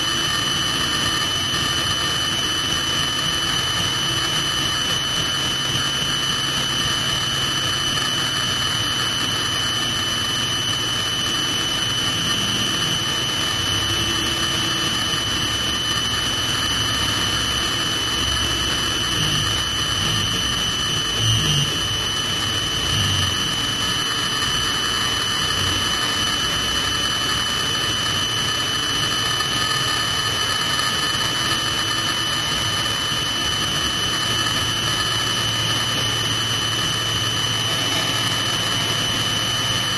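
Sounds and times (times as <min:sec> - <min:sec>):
helicopter turbine whine: 0:00.0 - 0:39.9
low engine drone: 0:00.0 - 0:39.9.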